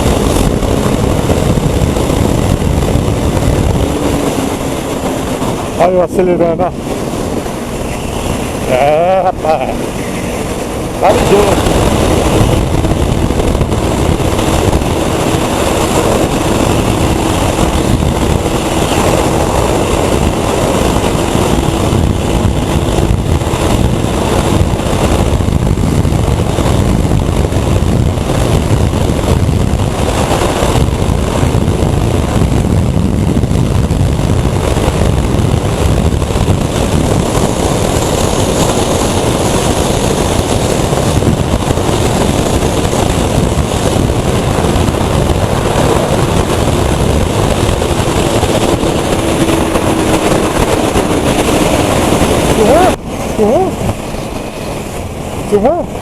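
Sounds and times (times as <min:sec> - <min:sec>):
motorcycle engine running: 0:00.0 - 0:56.0
wind rush over microphone: 0:00.0 - 0:56.0.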